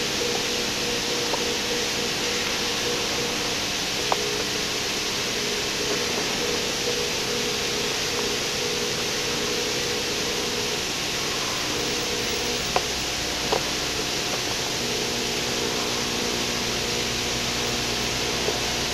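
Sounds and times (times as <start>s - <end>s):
faint drone: 0.0s - 18.9s.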